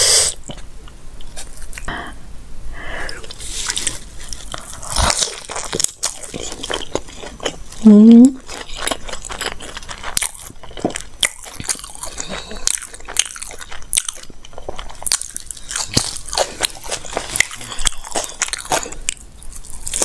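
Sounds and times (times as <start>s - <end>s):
person chewing food: 0.0s - 2.0s, 3.0s - 20.0s.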